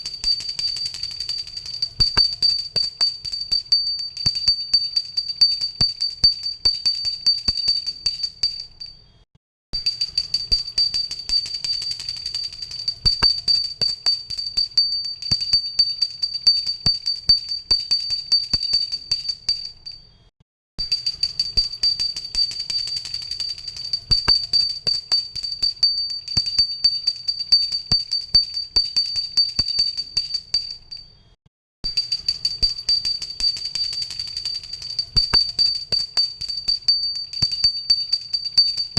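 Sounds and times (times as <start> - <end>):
hand bell ringing: 0.0 - 9.0, 9.8 - 20.0, 20.8 - 31.1, 31.9 - 38.9.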